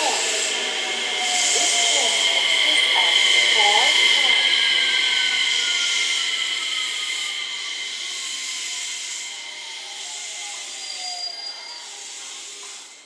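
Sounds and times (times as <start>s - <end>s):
electric train rolling: 0.0s - 13.0s
high train whine: 0.0s - 13.0s.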